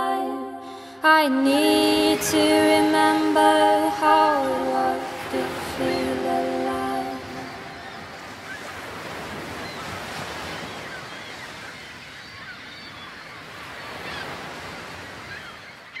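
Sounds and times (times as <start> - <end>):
ocean surf breaking on beach: 1.4 - 15.9.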